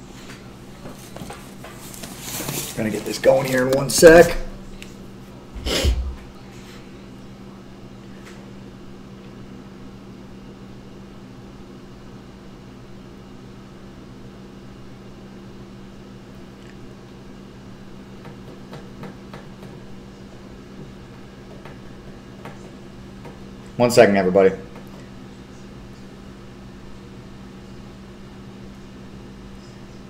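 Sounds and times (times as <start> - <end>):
steady low hum with hiss: 0.0 - 30.0.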